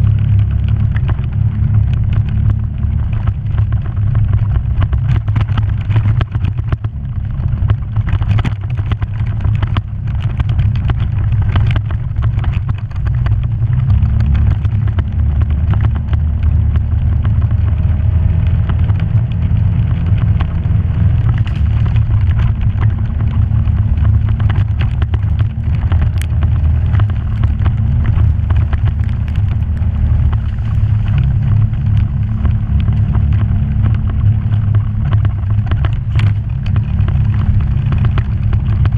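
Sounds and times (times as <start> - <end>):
knocks and rattles: 0.0 - 38.9
vehicle engine droning: 0.0 - 38.9.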